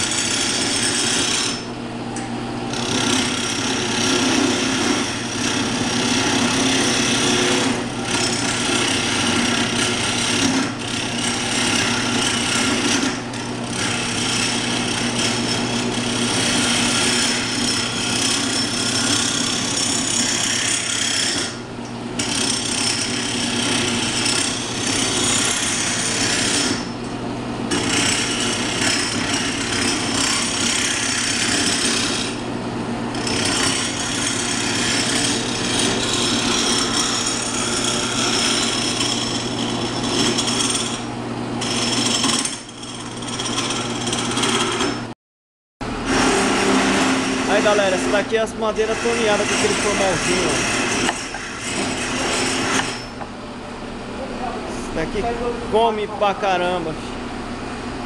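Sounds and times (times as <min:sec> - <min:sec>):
gouge cutting wood: 0:00.0 - 0:01.6, 0:02.7 - 0:21.6, 0:22.2 - 0:26.9, 0:27.7 - 0:32.4, 0:33.1 - 0:41.0, 0:41.6 - 0:45.0, 0:46.0 - 0:53.1
lathe motor humming: 0:00.0 - 0:21.6, 0:22.2 - 0:26.9, 0:27.6 - 0:32.4, 0:33.1 - 0:41.0, 0:45.9 - 0:53.4.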